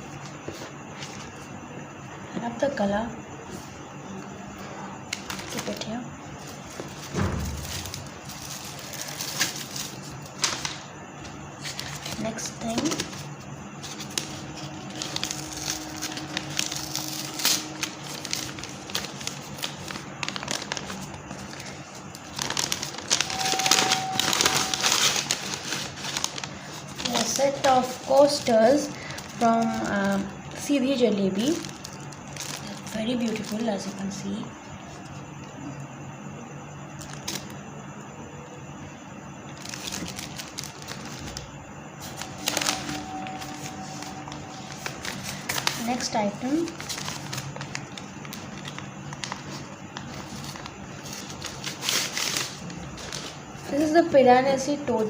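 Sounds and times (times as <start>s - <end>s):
wrapping crinkling: 5.1s - 34.2s, 37.0s - 37.6s, 39.5s - 54.7s.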